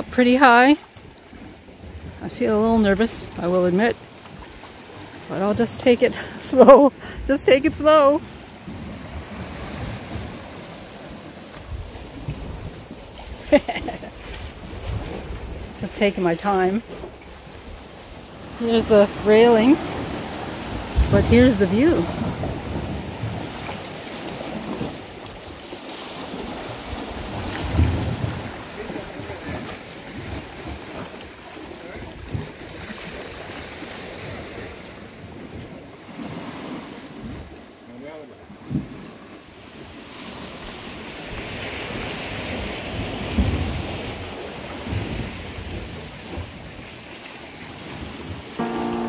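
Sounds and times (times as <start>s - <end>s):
ocean surf: 0.0s - 12.5s, 13.4s - 31.9s, 39.8s - 49.0s.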